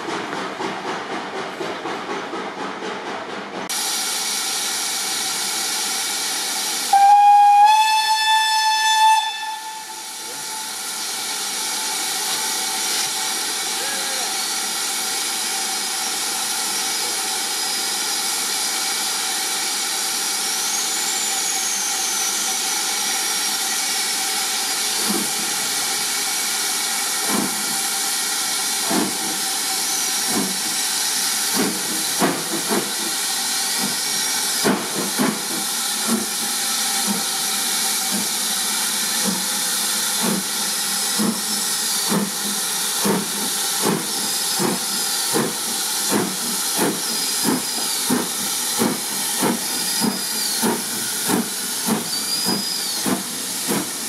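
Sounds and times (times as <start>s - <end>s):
steam hissing: 3.7s - 54.0s.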